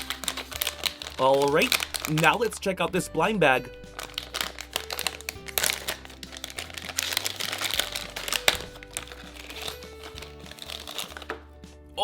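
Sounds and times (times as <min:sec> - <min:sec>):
plastic packaging crinkling: 0:00.0 - 0:02.6, 0:03.8 - 0:11.4
light instrumental music: 0:00.0 - 0:12.0.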